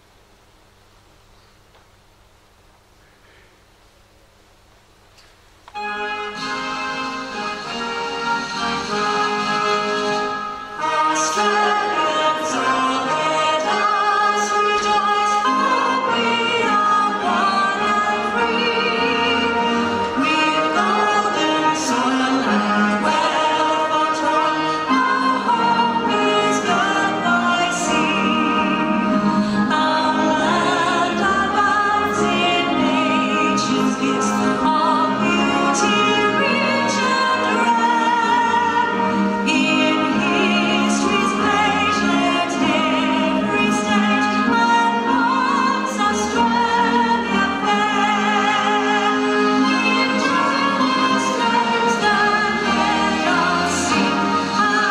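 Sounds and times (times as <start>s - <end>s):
song with singing voice: 5.3s - 54.9s.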